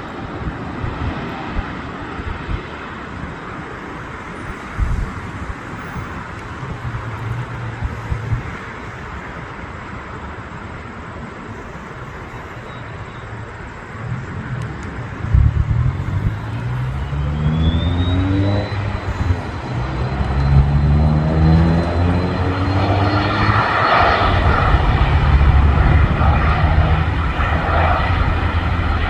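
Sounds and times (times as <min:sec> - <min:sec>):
jet engine roar: 0:00.0 - 0:29.0
jet engine whine: 0:00.0 - 0:29.0.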